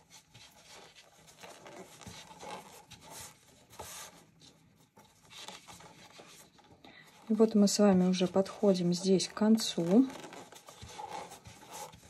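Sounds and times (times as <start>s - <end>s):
soft yarn rustling: 0.0s - 12.0s.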